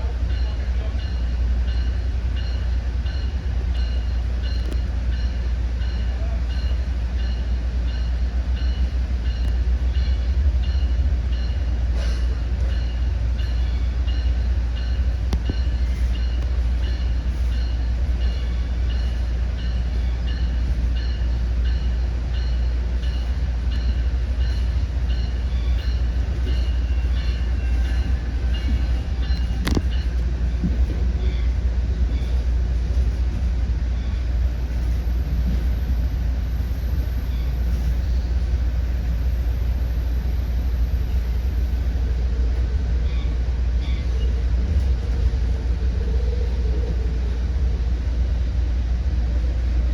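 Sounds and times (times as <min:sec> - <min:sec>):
train wheels rumbling on track: 0:00.0 - 0:49.9.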